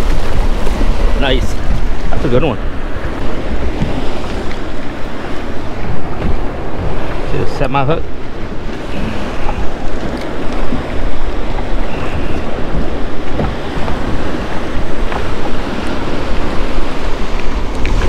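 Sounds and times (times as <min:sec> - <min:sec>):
choppy sea water breaking on rocks: 0:00.0 - 0:18.0
wind buffeting microphone: 0:00.0 - 0:18.0.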